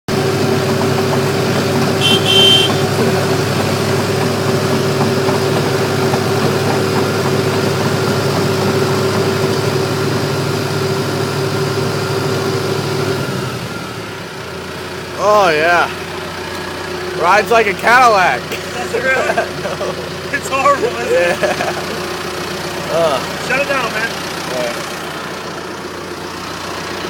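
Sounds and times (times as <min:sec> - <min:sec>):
bulldozer diesel engine running: 0:00.1 - 0:27.0.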